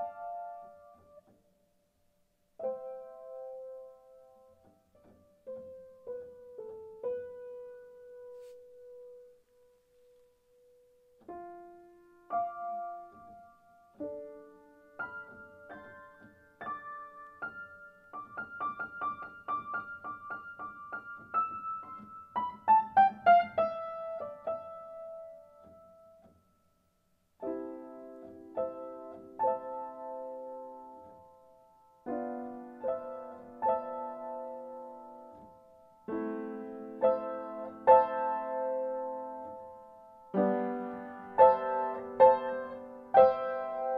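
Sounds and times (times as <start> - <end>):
piano music: 0.0 - 1.7, 2.5 - 26.7, 27.4 - 43.9.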